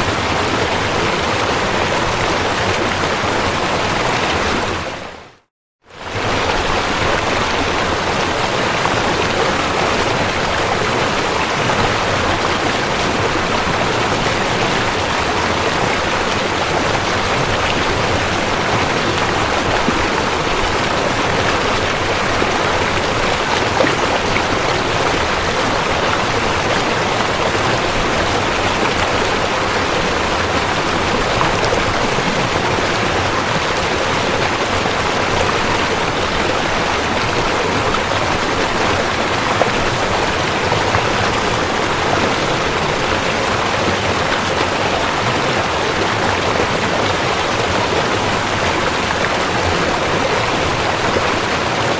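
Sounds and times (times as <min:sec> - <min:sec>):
rushing river water: 0:00.0 - 0:51.9.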